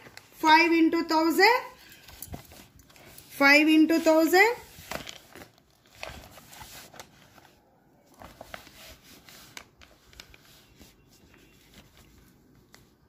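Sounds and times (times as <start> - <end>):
paper and book handling: 0.0 - 0.6, 1.8 - 13.0.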